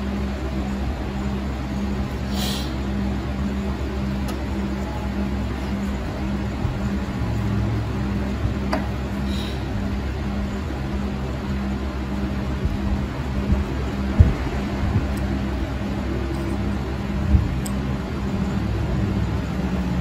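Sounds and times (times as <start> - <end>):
low rumble: 0.0 - 20.0
pulsing low tone: 0.0 - 20.0.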